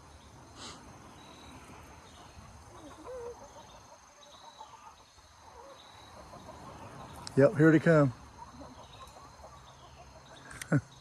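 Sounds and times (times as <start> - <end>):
crickets chirring: 0.0 - 11.0
hen calling: 1.5 - 10.6.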